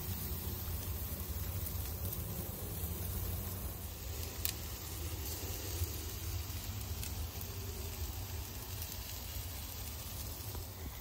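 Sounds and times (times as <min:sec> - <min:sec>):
constant low rumble: 0:00.0 - 0:11.0
meat sizzling on a grill: 0:00.0 - 0:11.0.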